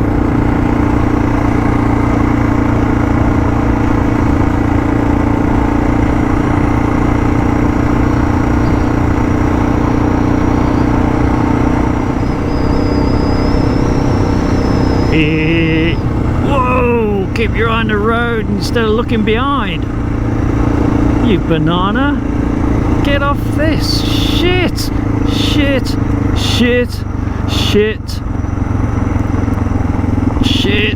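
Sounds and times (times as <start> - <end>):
motorcycle engine cruising: 0.0 - 30.9.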